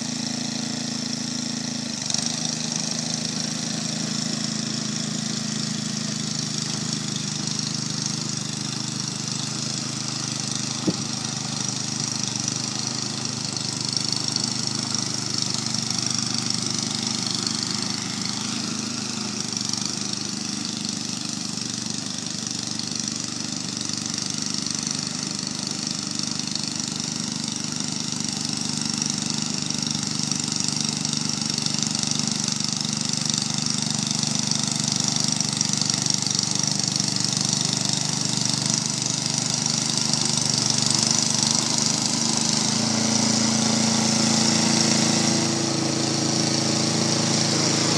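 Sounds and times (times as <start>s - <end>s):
snowblower engine running: 0.0s - 47.9s.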